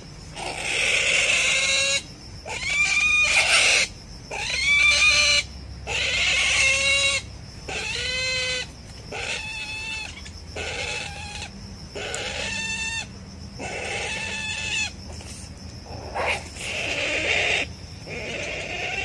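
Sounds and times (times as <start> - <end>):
animal squealing: 0.4 - 19.0.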